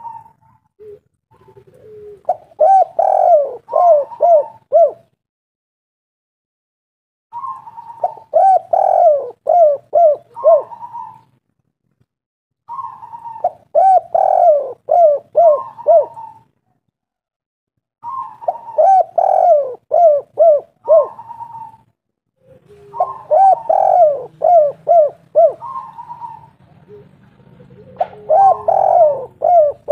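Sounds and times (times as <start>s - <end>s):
dove cooing: 0.0s - 5.2s, 7.3s - 11.4s, 12.7s - 16.6s, 18.0s - 29.9s.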